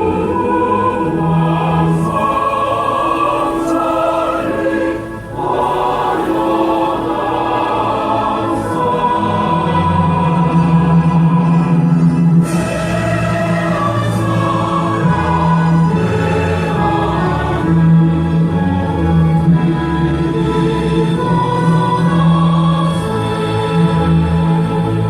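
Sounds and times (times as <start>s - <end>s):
choir singing long notes: 0.0s - 25.0s.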